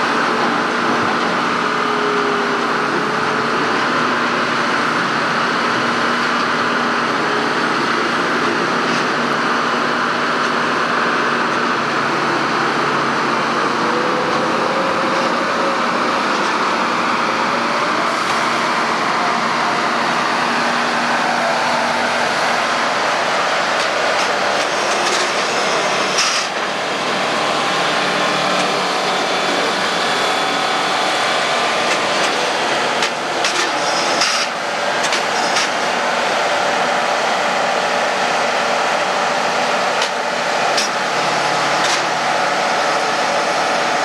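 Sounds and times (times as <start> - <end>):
heavy machinery running: 0.0 - 44.0.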